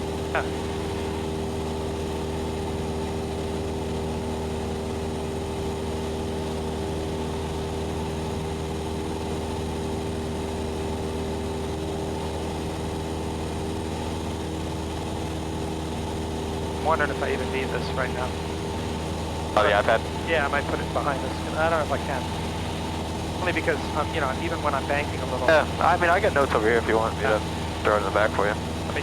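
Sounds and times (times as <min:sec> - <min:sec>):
airplane engine and propeller drone: 0:00.0 - 0:29.0.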